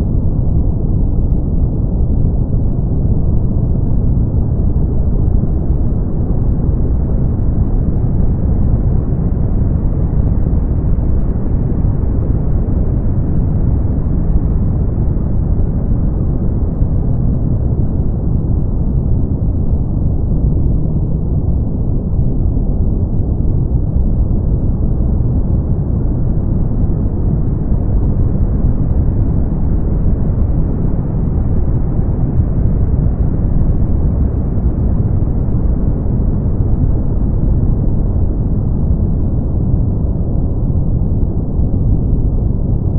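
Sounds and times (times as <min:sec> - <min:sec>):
brown noise: 0:00.0 - 0:42.9.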